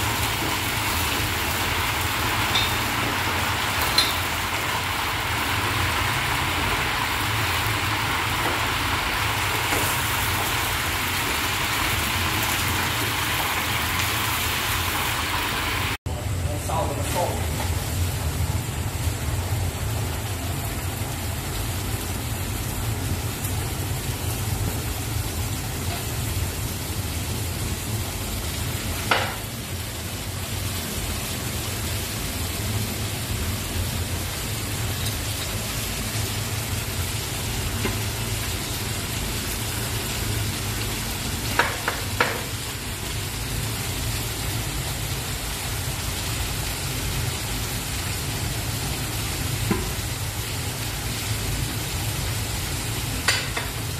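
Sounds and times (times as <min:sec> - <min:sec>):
carrots sizzling in hot oil: 0:00.0 - 0:16.0, 0:16.7 - 0:53.9.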